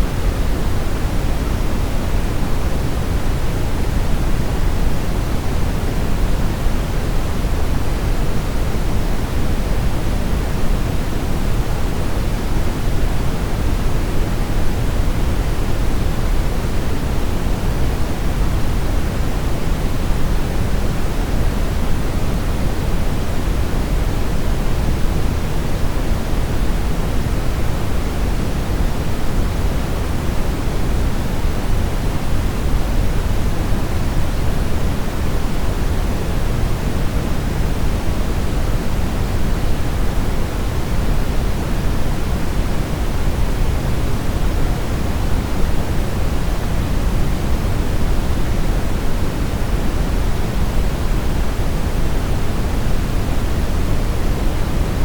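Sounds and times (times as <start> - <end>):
brown noise hiss: 0.0 - 55.0.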